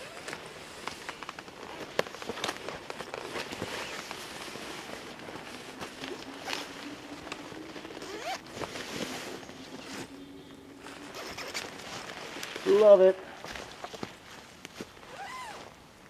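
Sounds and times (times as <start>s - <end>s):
hammock fabric rustling: 0.0s - 16.0s.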